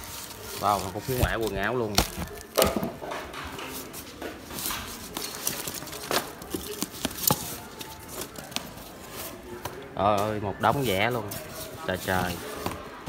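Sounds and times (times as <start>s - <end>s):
plastic wrap rustling and crinkling: 0.0s - 12.9s.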